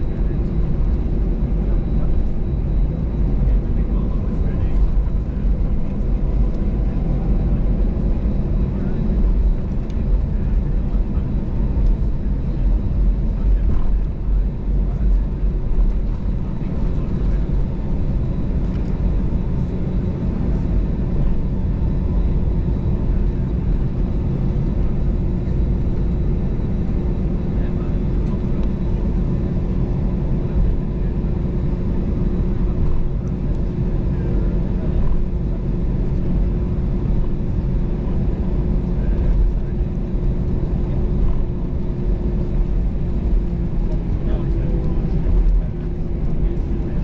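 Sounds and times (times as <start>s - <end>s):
aircraft engines taxiing: 0.0s - 47.0s.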